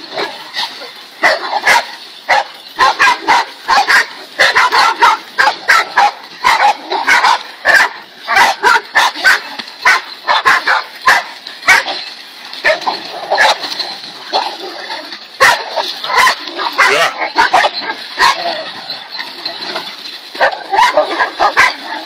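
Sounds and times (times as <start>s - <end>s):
dogs barking: 0.0s - 22.0s
dogs yipping: 0.0s - 22.0s.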